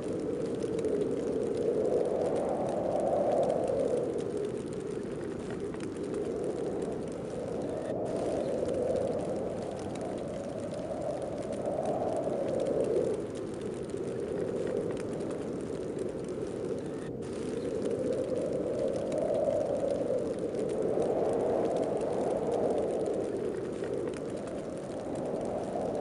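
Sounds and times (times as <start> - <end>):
snowstorm wind blowing: 0.0 - 26.0.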